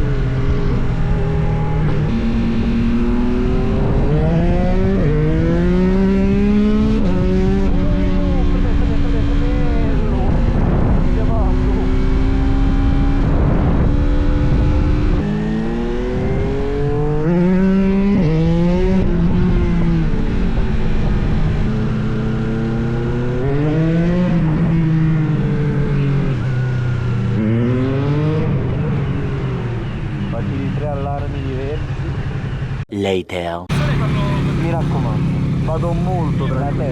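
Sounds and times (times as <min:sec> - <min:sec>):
motorcycle engine revving: 0:00.0 - 0:32.8, 0:33.7 - 0:36.9.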